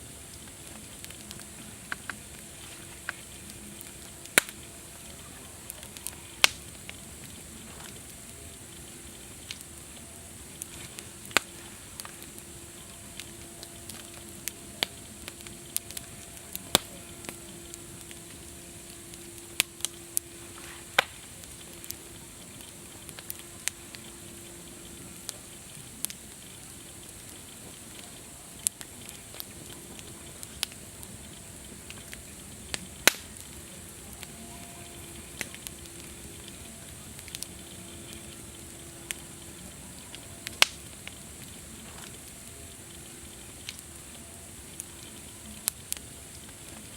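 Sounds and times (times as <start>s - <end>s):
campfire crackling: 0.0s - 46.9s.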